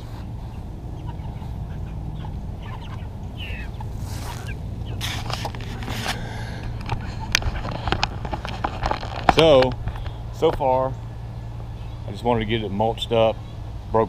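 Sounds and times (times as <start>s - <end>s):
noisy rustles: 0.0s - 12.1s
chickens clucking: 0.0s - 13.7s
steady low hum: 0.0s - 14.0s.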